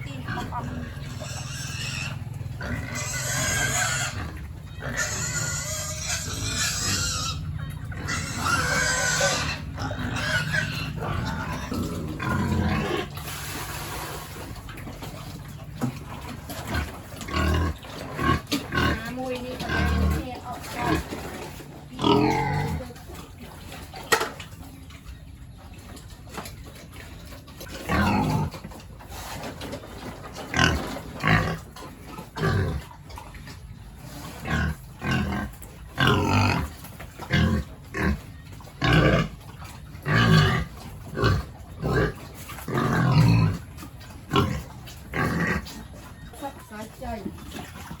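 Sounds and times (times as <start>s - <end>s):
pigs calling: 0.0s - 48.0s.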